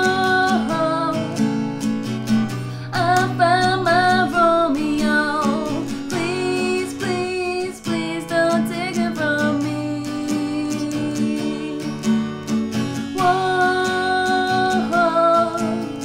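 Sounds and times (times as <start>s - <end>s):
person singing with vibrato: 0.0s - 1.7s, 2.7s - 12.2s, 13.0s - 16.0s
acoustic guitar chords: 0.0s - 16.0s.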